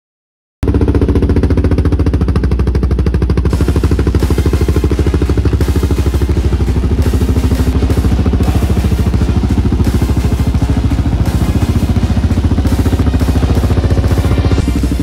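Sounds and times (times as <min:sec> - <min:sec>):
motorcycle engine idling: 0:00.6 - 0:15.0.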